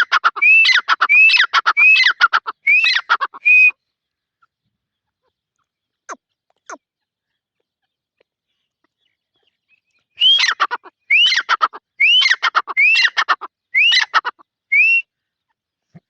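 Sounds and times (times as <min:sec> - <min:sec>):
partridge calling: 0:00.0 - 0:16.0.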